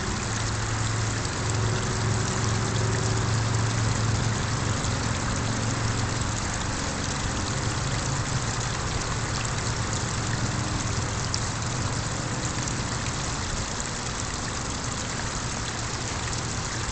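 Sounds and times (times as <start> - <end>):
low steady hum: 0.0 - 16.9
small waterfall splashing: 0.0 - 16.9.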